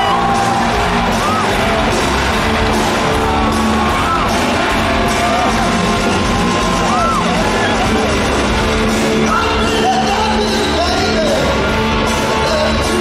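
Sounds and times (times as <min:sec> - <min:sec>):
crowd yelling and whooping: 0:00.0 - 0:13.0
rock band playing live: 0:00.0 - 0:13.0.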